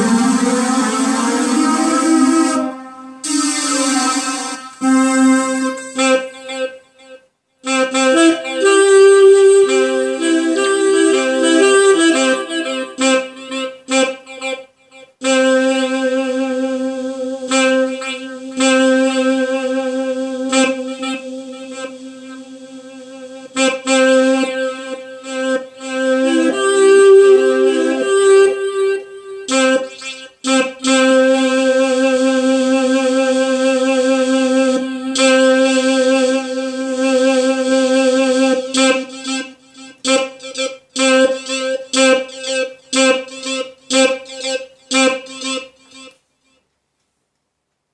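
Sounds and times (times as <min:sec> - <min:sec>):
keyboard held notes: 0:00.0 - 0:06.8, 0:07.7 - 0:14.0, 0:15.2 - 0:46.2.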